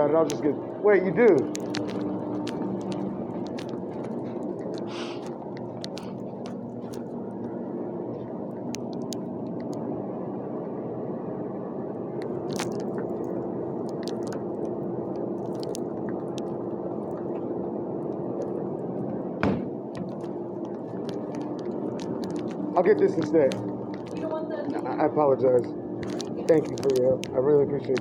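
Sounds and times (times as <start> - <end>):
faint clicks and rustles: 0.0 - 9.8, 12.2 - 28.0
steady shop hum: 0.0 - 28.0.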